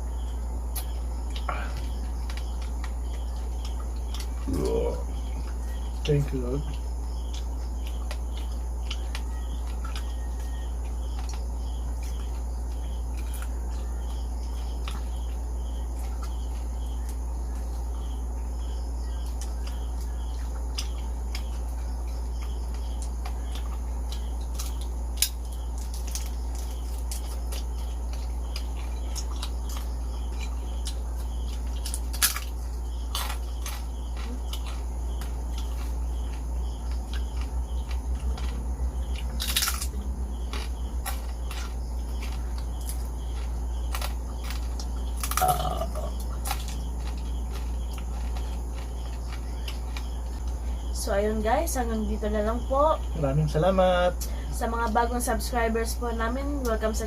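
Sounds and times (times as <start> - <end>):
faint high chirps: 0.0 - 51.1
steady low hum: 0.0 - 57.0.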